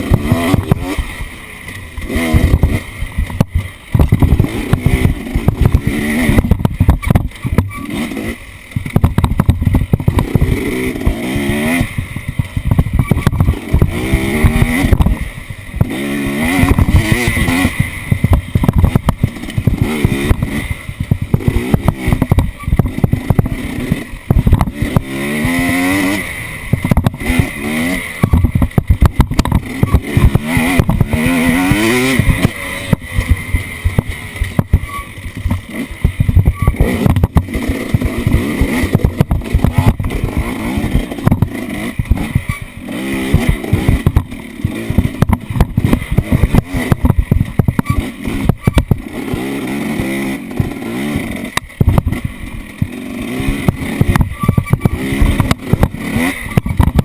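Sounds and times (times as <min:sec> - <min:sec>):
vehicle engine revving: 0:00.0 - 0:57.0
knocks and rattles: 0:01.7 - 0:08.0, 0:08.7 - 0:57.0.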